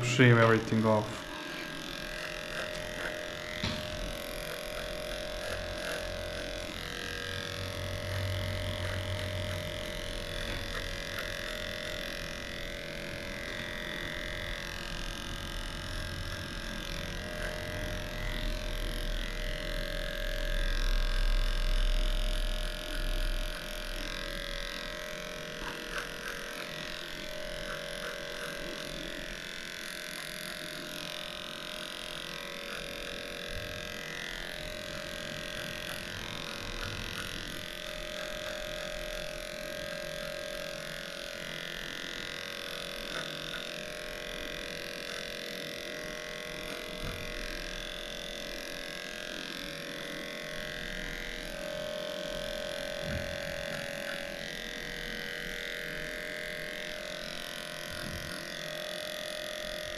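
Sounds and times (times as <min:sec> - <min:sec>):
electric clippers humming: 0:00.0 - 0:59.9.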